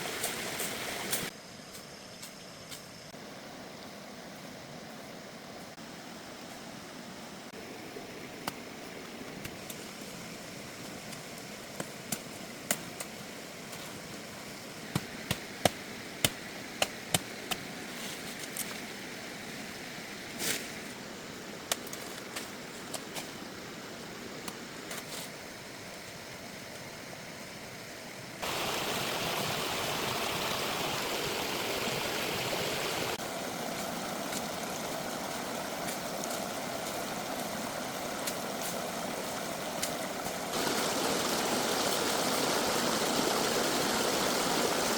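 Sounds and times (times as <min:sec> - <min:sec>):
running stream water: 0:00.0 - 0:01.3, 0:02.9 - 0:44.9
steady background hiss: 0:00.0 - 0:44.9.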